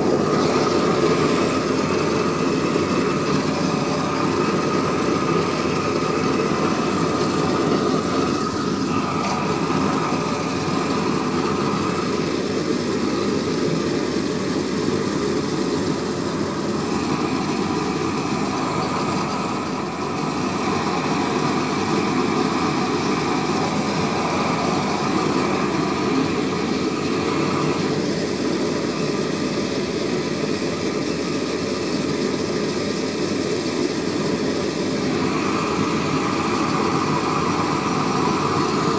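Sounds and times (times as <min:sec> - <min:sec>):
gas torch flame rushing: 0:00.0 - 0:38.9.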